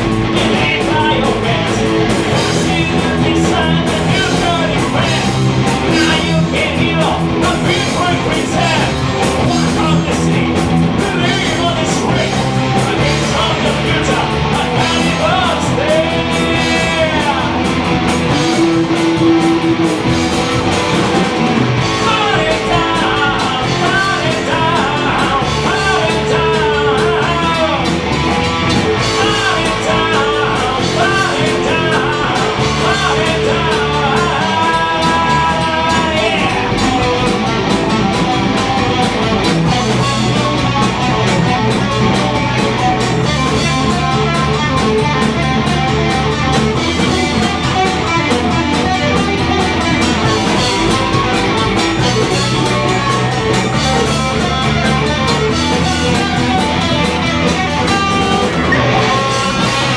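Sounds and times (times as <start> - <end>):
bending lead guitar line: 0.0 - 59.9
heavy metal band playing live: 0.0 - 59.9.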